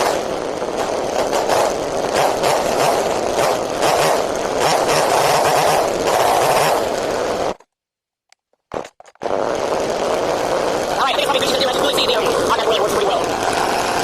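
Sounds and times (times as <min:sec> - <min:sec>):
chainsaw engine idling: 0:00.0 - 0:07.6, 0:09.2 - 0:14.0.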